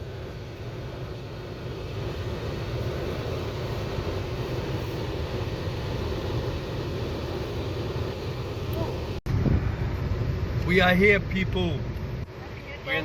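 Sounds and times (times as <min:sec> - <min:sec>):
car interior road and engine noise: 0:00.0 - 0:13.0.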